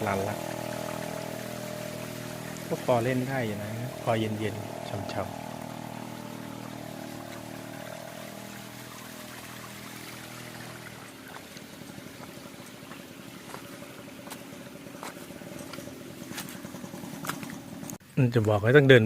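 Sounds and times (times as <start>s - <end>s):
waterfall rushing over rock: 0.0s - 15.7s
low steady hum: 0.0s - 18.0s.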